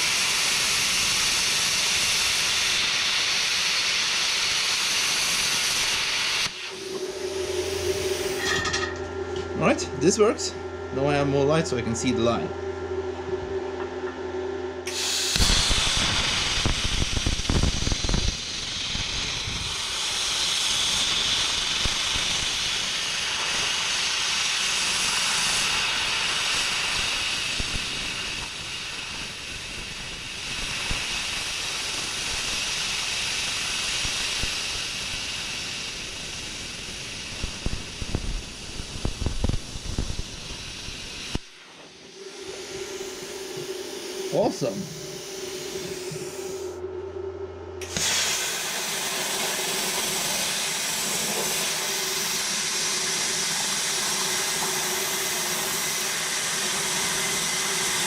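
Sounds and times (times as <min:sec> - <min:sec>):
plasma cutter hissing: 0:00.0 - 0:08.7, 0:14.9 - 0:46.8, 0:47.8 - 0:58.0.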